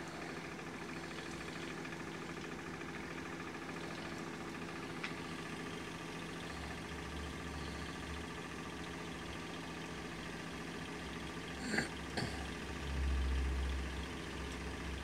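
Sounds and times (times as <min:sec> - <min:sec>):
model steam engine running: 0:00.0 - 0:15.0.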